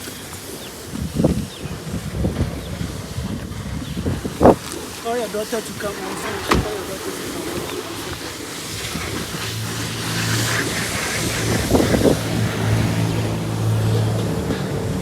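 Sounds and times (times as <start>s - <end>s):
rushing hiss: 2.7s - 15.0s.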